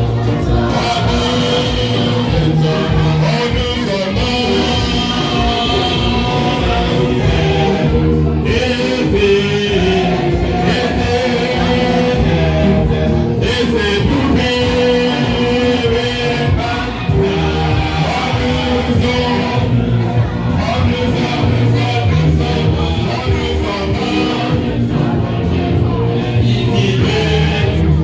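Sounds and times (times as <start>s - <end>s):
guitar: 0.0s - 28.0s
person singing: 0.0s - 28.0s.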